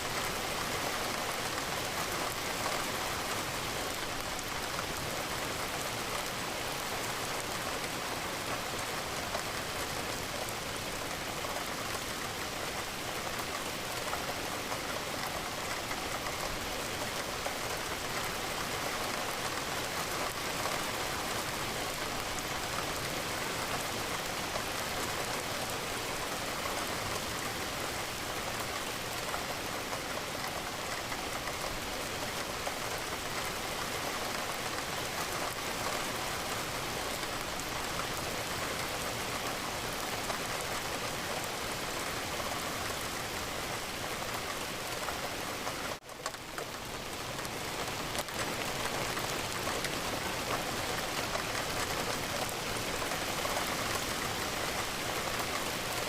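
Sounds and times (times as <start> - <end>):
rain pattering on window: 0.1 - 56.0.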